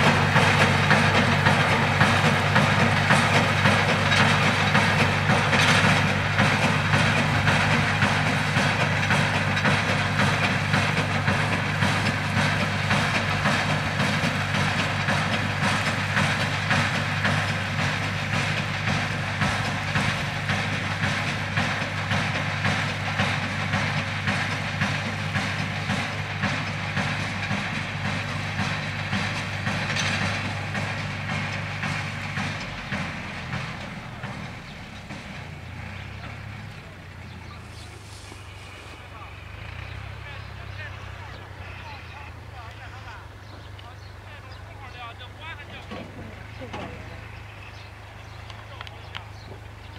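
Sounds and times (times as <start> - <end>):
baler mechanical clatter: 0.0 - 38.0, 45.4 - 47.4
engine hum: 0.0 - 49.9.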